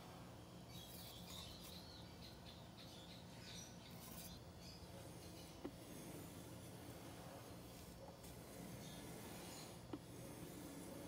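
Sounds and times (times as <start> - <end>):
faint bird chirping: 0.0 - 11.0
outdoor background hum: 0.0 - 11.0.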